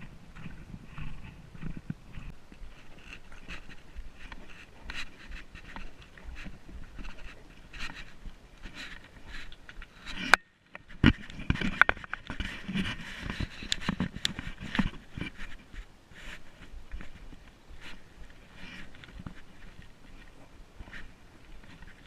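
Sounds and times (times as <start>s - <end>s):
footsteps on trail: 0.0s - 22.0s.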